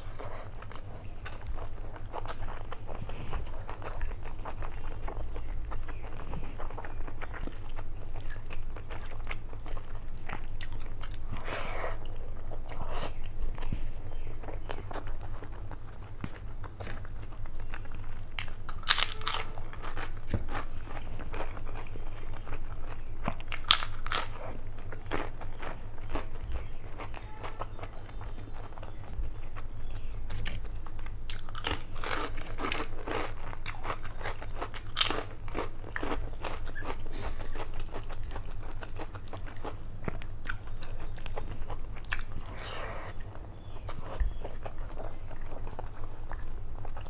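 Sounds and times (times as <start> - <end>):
low steady hum: 0.0 - 47.0
person chewing with wet smacks: 0.0 - 47.0.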